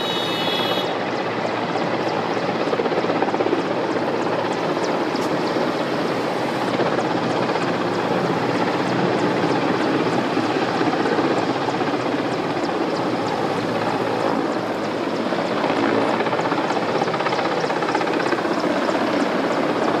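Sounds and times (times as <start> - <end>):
helicopter rotor and engine: 0.0 - 20.0.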